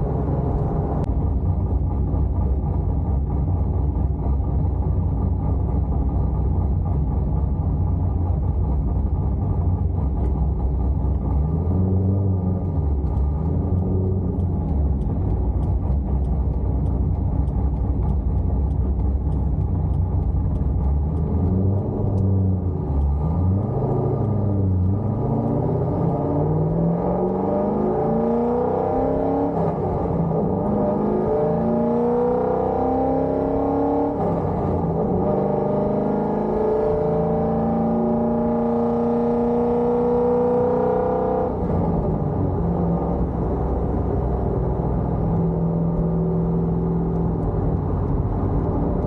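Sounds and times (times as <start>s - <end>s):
car engine exhaust rumble: 0.0s - 49.0s.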